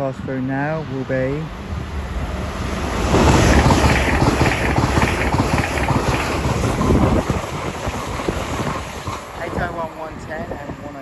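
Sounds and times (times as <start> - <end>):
trains passing at speed: 0.0 - 11.0
wind buffeting microphone: 0.0 - 11.0.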